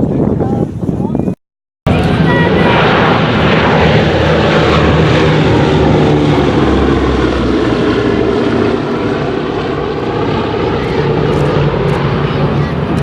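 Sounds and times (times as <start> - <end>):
propeller plane engine overhead: 1.9 - 13.0.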